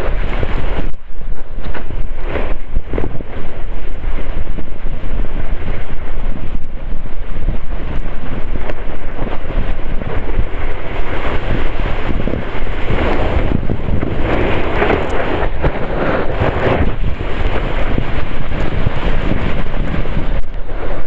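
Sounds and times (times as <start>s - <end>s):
snowboard scraping over snow: 0.0s - 21.0s
wind buffeting microphone: 0.0s - 21.0s.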